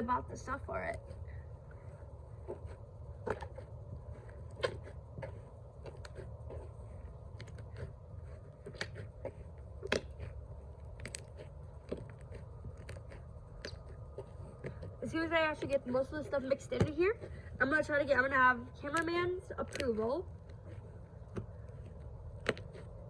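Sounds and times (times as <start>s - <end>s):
low steady hum: 0.0s - 23.0s
wet squelches of slime: 0.9s - 23.0s.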